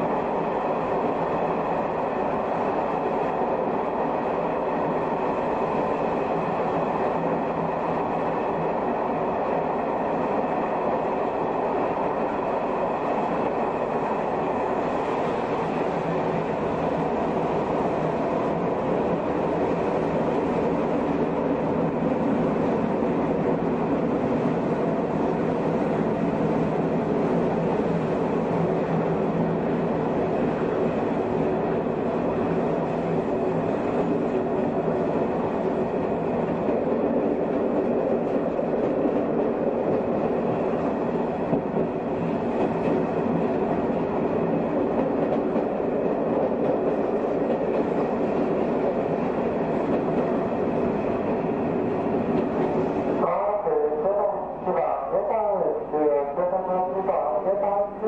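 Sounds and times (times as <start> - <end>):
train motor and gear hum: 0.0 - 58.0
train wheel rumble: 0.0 - 58.0.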